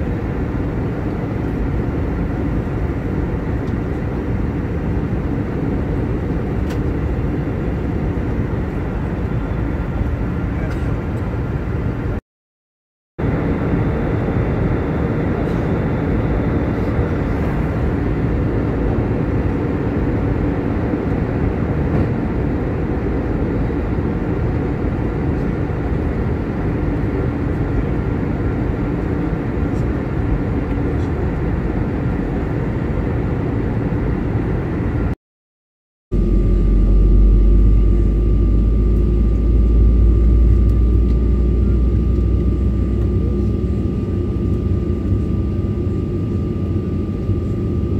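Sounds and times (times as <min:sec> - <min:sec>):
airliner cabin engine drone: 0:00.0 - 0:12.2, 0:13.2 - 0:35.2, 0:36.1 - 0:47.9.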